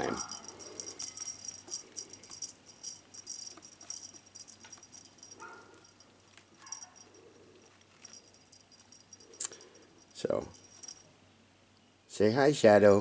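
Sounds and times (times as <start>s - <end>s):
small bell jingling: 0.0s - 11.1s.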